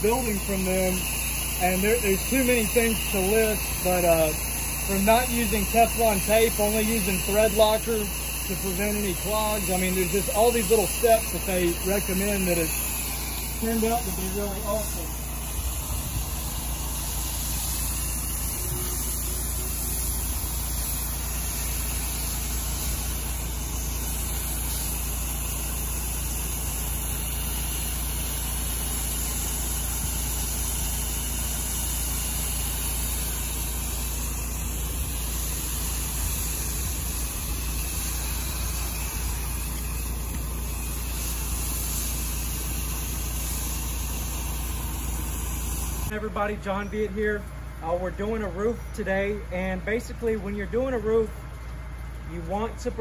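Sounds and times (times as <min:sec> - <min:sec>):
water spraying hiss: 0:00.0 - 0:46.1
pressure washer running: 0:00.0 - 0:53.0.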